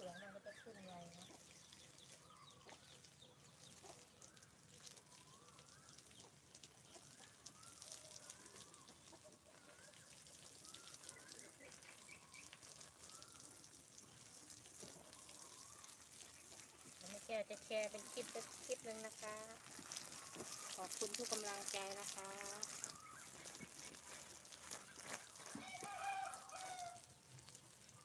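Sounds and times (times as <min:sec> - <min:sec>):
water spraying from hose: 0:00.0 - 0:28.0.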